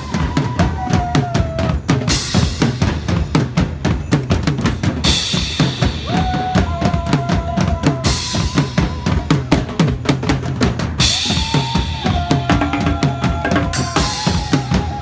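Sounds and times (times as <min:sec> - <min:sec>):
fast heavy drum beat: 0:00.0 - 0:15.0.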